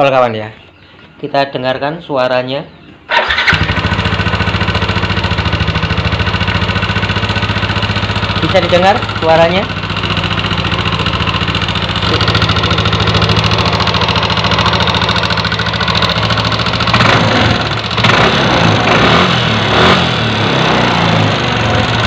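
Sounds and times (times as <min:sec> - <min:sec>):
scooter engine idling roughly: 0:03.1 - 0:22.0.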